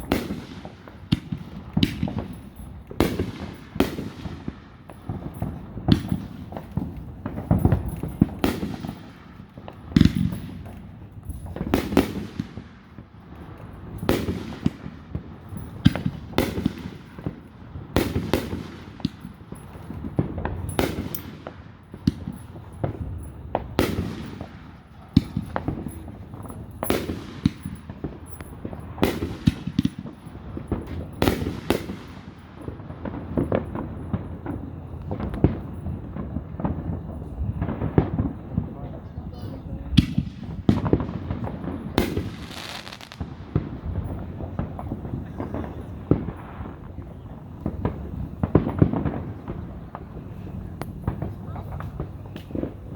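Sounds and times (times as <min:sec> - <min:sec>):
firework shells bursting: 0:00.0 - 0:38.5, 0:39.9 - 0:52.9.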